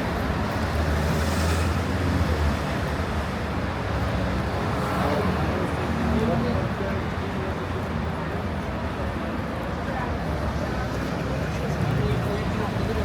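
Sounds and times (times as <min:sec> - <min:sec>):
city noise: 0:00.0 - 0:13.0.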